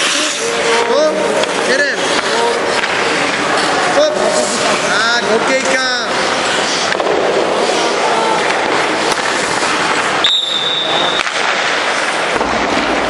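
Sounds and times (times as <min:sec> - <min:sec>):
skates scraping on ice: 0:00.0 - 0:13.0.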